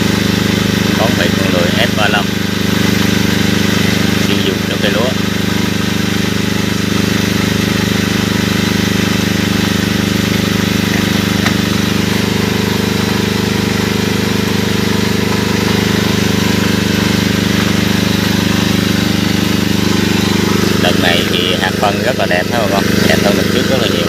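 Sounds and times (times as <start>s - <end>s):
drone rotors humming: 0.0s - 24.0s.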